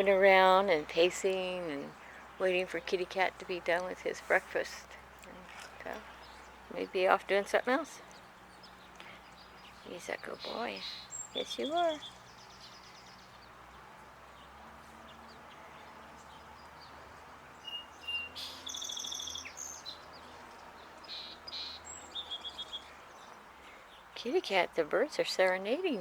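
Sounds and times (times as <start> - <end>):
songbirds chirping and trilling: 0.0 - 26.0.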